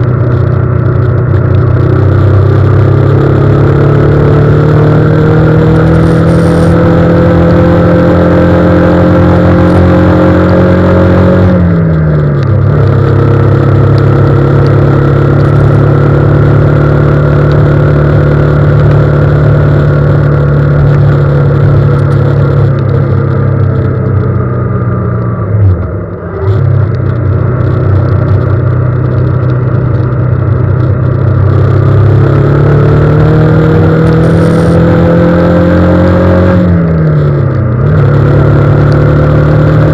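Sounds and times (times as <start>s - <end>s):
tyres on wet road: 0.0s - 39.9s
vehicle engine running: 0.0s - 39.9s.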